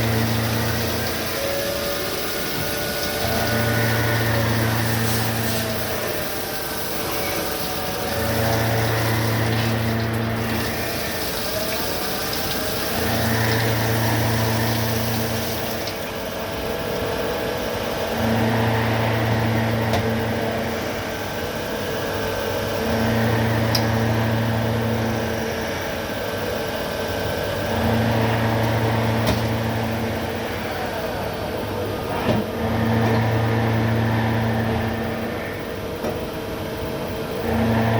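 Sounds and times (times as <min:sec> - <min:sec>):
coolant rushing: 0:00.0 - 0:35.8
lathe running: 0:00.0 - 0:37.9
low machine hum: 0:00.0 - 0:37.9.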